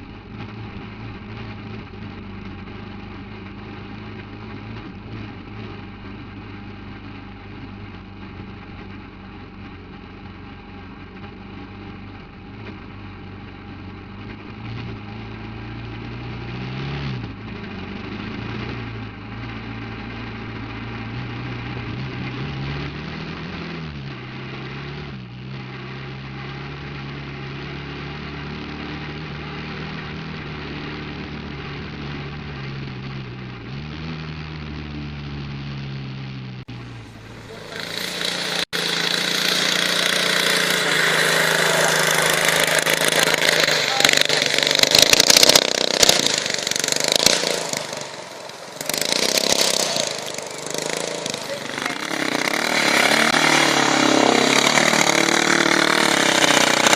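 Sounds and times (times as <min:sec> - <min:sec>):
buggy engine running: 0:00.0 - 0:56.9.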